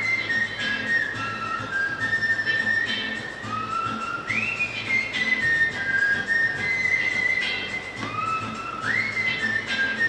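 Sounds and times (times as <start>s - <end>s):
backing music with light beat: 0.0s - 10.0s
whistled melody: 0.0s - 10.0s.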